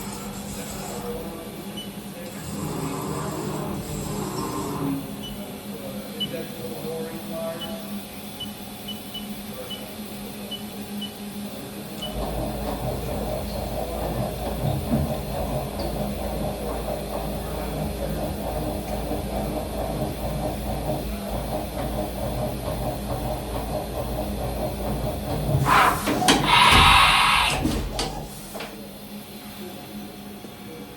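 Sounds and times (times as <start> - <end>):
machine hum and hiss: 0.0 - 30.9.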